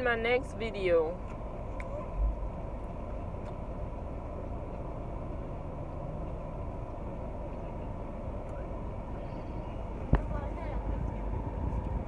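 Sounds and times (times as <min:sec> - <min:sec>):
car engine idling hum: 0:00.0 - 0:12.0.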